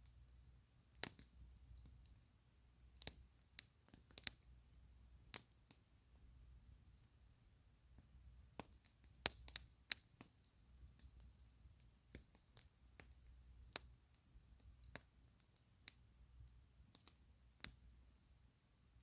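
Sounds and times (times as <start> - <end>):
pops and snaps of burning wood: 0.0 - 2.2, 2.8 - 6.3, 7.0 - 18.3
campfire crackling: 0.0 - 19.0.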